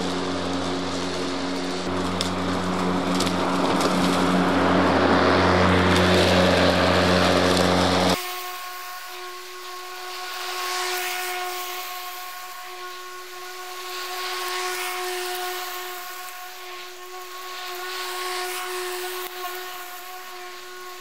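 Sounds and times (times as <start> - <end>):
electric lawnmower whine: 0.0 - 21.0.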